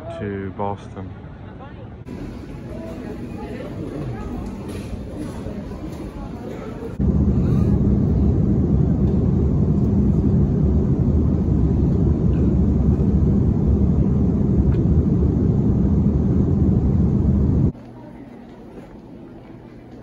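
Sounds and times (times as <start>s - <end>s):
airliner cabin rumble: 2.0s - 20.0s.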